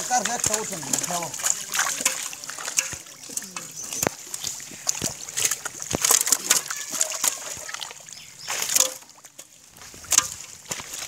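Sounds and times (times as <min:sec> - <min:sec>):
fish thrashing in water: 0:00.0 - 0:11.0.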